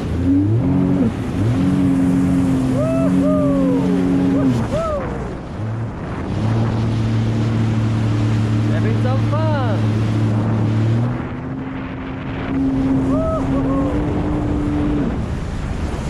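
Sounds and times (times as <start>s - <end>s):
jet ski engine revving: 0.0s - 16.0s
water and wind hiss: 0.0s - 16.0s.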